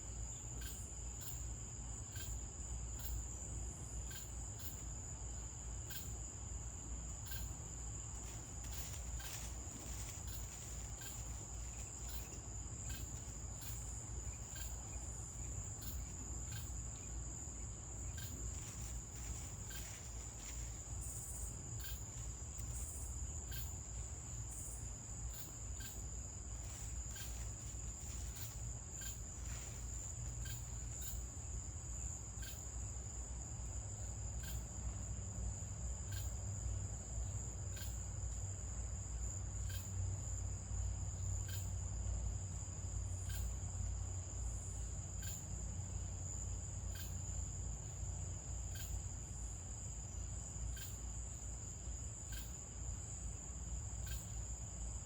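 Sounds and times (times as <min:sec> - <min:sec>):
low background rumble: 0:00.0 - 0:50.5
insects trilling: 0:00.0 - 0:55.0.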